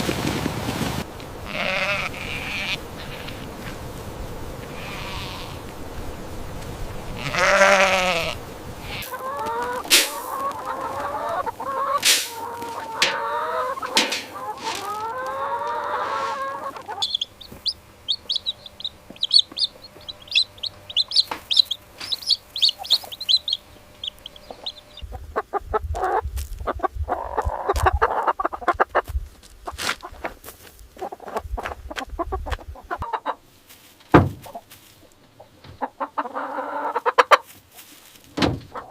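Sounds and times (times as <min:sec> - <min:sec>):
chickens clucking: 0:01.4 - 0:38.9.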